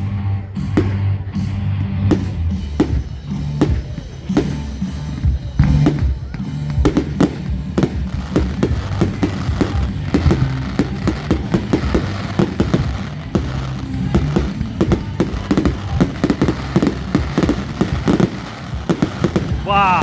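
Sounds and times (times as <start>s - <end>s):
background music with bass: 0.0s - 20.0s
fireworks banging and crackling: 0.0s - 20.0s.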